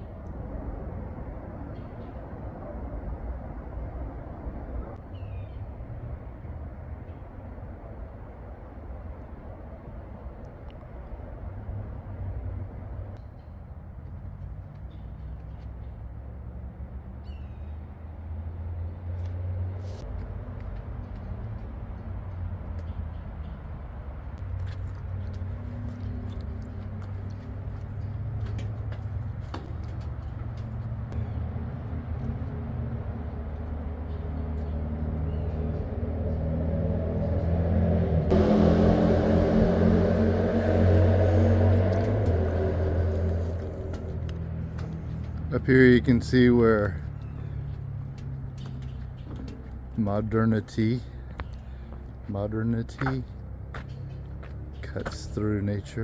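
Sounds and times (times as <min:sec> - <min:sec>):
distant highway traffic rumble: 0:00.0 - 0:56.0
rush of road noise: 0:00.0 - 0:56.0
vehicle engine hum: 0:00.0 - 0:56.0.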